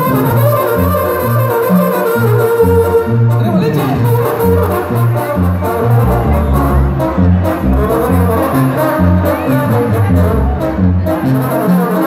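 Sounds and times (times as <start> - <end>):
low bass line: 0.0 - 11.9
live brass band music: 0.0 - 12.0.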